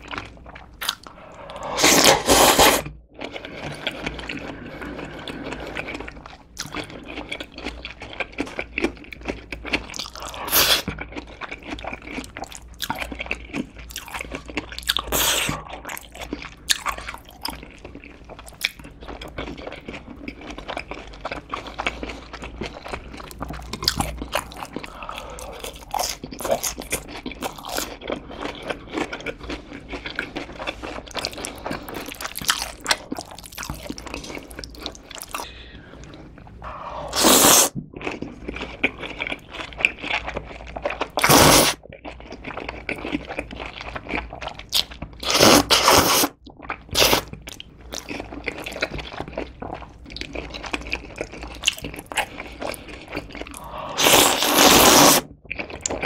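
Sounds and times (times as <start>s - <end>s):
person chewing and crunching food: 0.0s - 56.0s.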